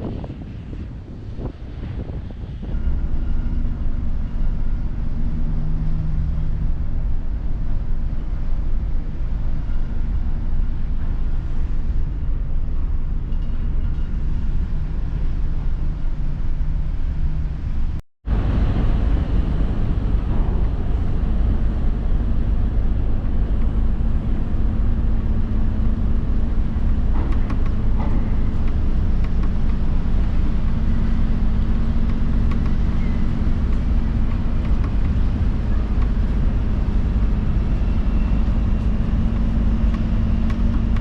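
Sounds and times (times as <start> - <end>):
car ferry rumbling: 0.0 - 41.0.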